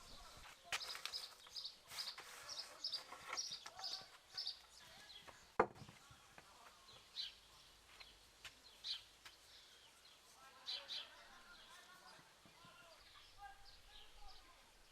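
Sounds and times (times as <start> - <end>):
songbird chirping: 0.0 - 14.9.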